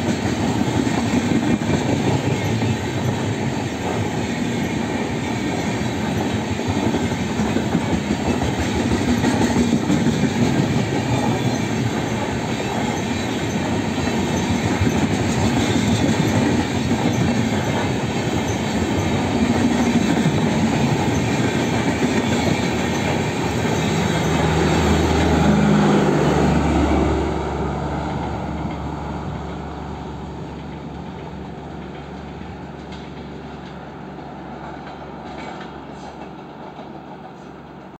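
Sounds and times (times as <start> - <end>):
train wheels clattering on track: 0.0 - 38.0.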